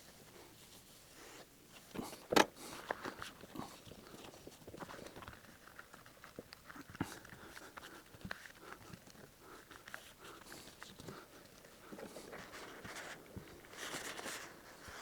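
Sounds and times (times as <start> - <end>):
leather and fabric rustling: 0.0 - 15.0.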